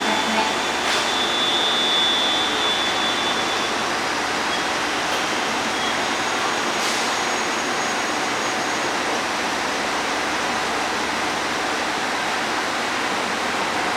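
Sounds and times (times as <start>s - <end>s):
diesel train engines running: 0.0s - 13.9s.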